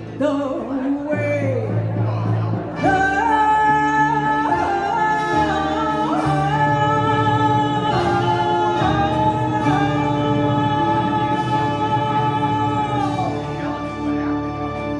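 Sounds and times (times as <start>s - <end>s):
woman singing: 0.0s - 2.2s, 2.8s - 14.2s
backing track music: 0.0s - 14.9s.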